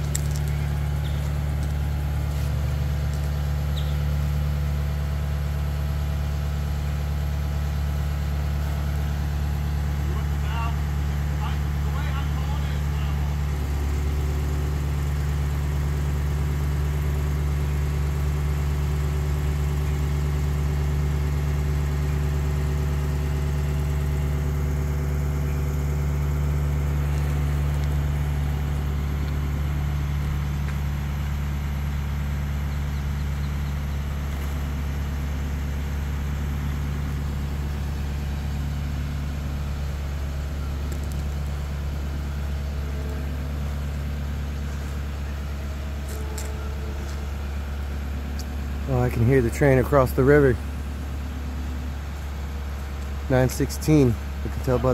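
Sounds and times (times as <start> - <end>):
crane diesel engine droning: 0.0 - 54.9.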